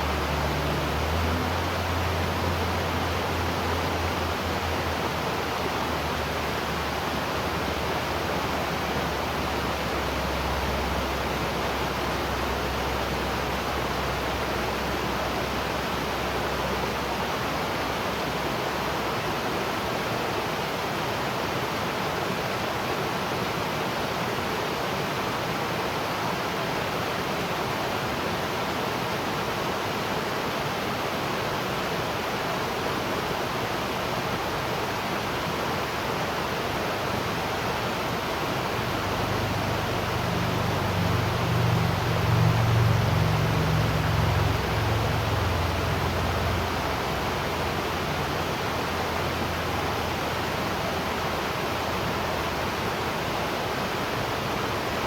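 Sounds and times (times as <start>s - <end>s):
waterfall rushing: 0.0s - 20.5s, 25.3s - 55.0s.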